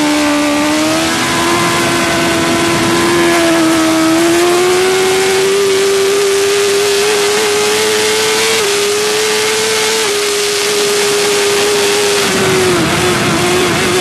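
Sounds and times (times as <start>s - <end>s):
motorcycle engine at high revs: 0.0s - 14.0s
heavy wind rush: 0.6s - 14.0s.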